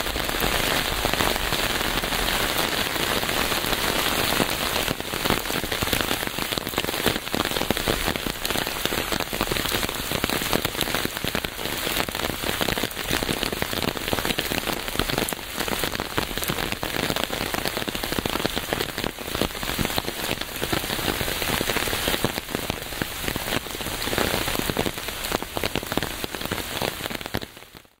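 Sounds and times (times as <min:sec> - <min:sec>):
rain on a hard surface: 0:00.0 - 0:28.0.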